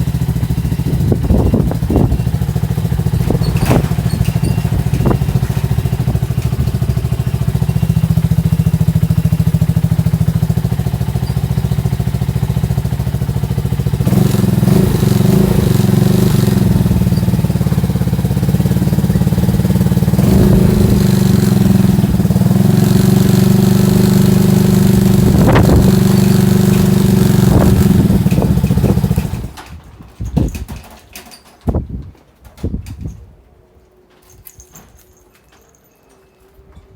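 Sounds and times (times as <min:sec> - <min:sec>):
engine running: 0:00.0 - 0:29.6
engine knocks: 0:00.0 - 0:31.0.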